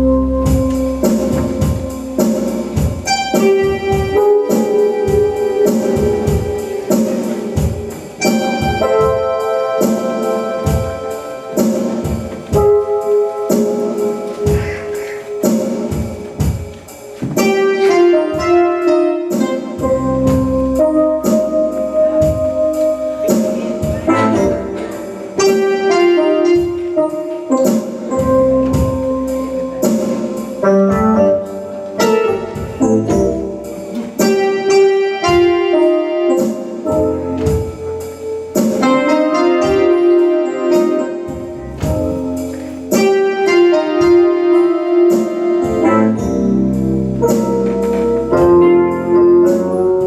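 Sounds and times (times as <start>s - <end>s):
piano: 0.0s - 50.0s
steady beat: 0.0s - 50.0s.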